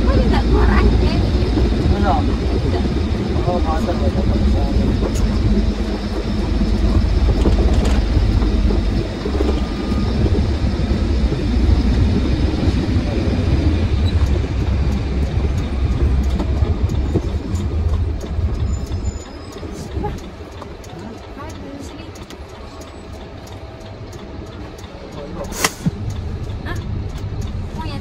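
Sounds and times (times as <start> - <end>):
truck engine and tyre rumble: 0.0 - 28.0.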